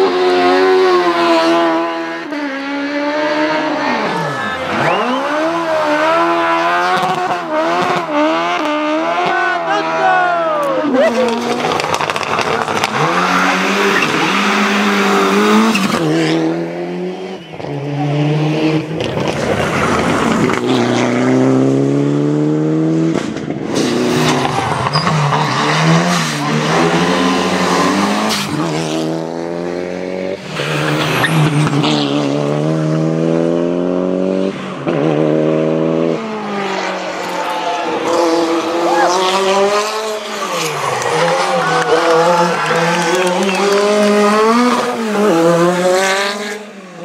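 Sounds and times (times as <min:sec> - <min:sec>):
rally cars accelerating past: 0:00.0 - 0:10.0, 0:10.8 - 0:47.0.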